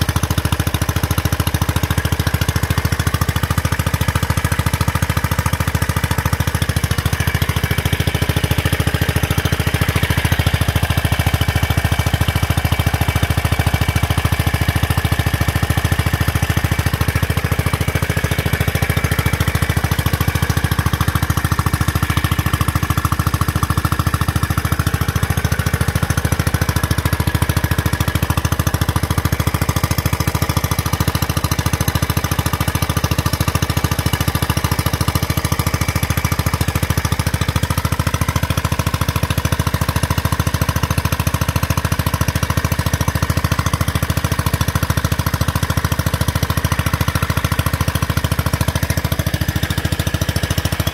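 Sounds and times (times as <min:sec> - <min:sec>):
single-cylinder engine running: 0:00.0 - 0:50.9.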